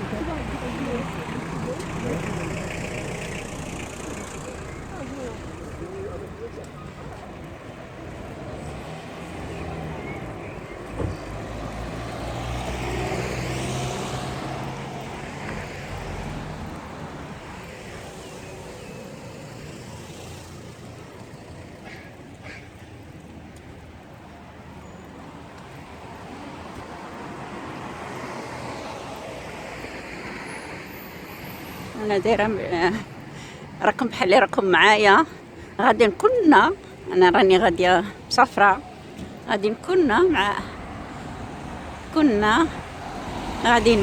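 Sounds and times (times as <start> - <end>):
vehicle engine hum: 0.0 - 44.0.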